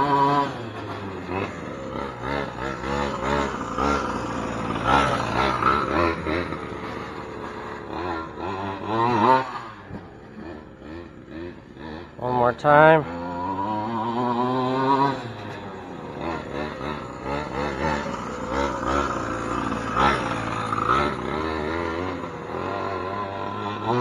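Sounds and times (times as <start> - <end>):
toy truck engine revving: 0.0 - 24.0.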